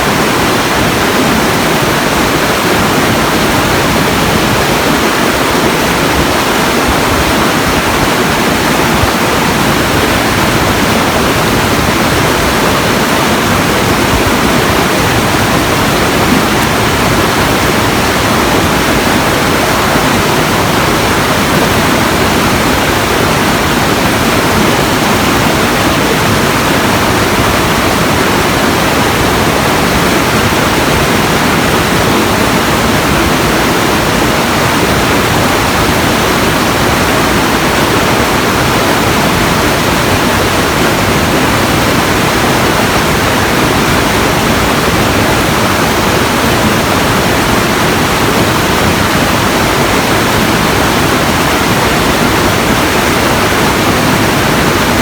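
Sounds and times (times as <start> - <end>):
loud steady rushing noise: 0.0 - 55.0.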